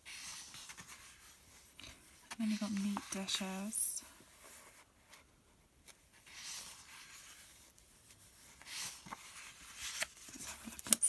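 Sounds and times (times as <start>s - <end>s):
book pages turning: 0.0s - 11.0s.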